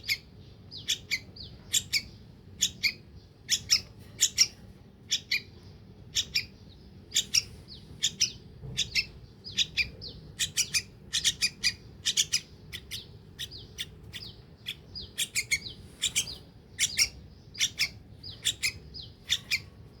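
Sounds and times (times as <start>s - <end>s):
bird chick begging chirps: 0.0s - 20.0s.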